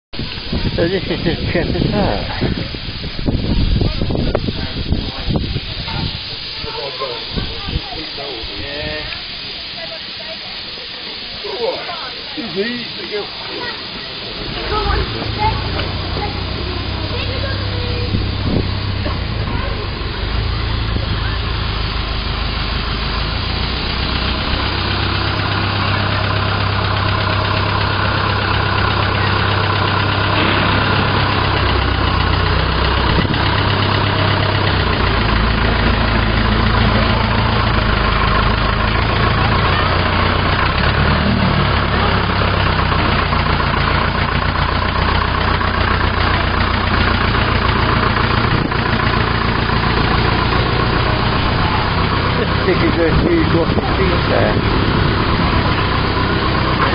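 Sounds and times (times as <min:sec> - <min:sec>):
digger engine running: 0:00.2 - 0:56.9.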